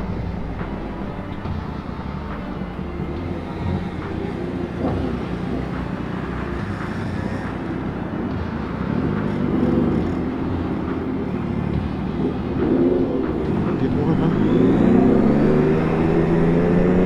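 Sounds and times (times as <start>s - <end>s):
motorcycle engine revving: 0.0s - 17.0s
road and wind noise: 0.0s - 17.0s.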